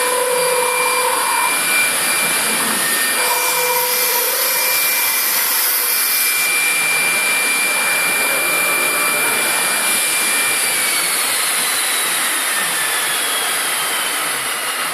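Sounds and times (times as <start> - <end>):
loud rushing hiss: 0.0 - 14.9
router high whine: 0.0 - 14.9.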